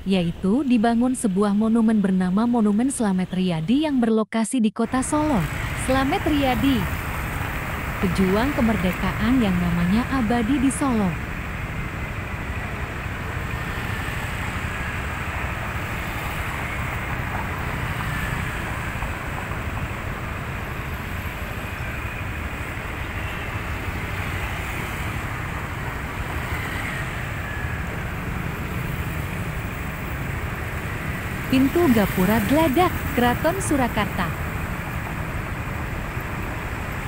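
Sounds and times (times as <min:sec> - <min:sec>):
cars passing: 0:04.9 - 0:37.0
motor scooters passing: 0:05.1 - 0:37.0.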